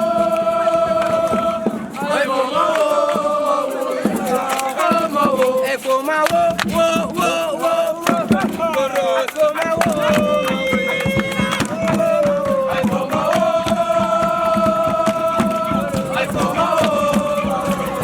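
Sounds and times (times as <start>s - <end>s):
group of voices chanting: 0.0s - 18.0s.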